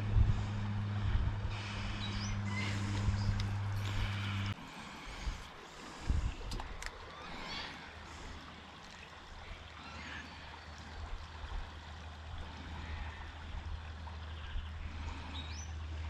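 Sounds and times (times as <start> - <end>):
flowing river water: 0.0 - 16.0
low steady rumble: 0.0 - 16.0.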